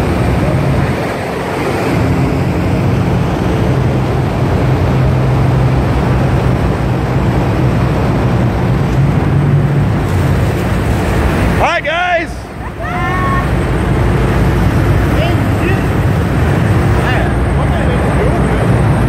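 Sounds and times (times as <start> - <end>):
truck engines running: 0.0 - 19.0.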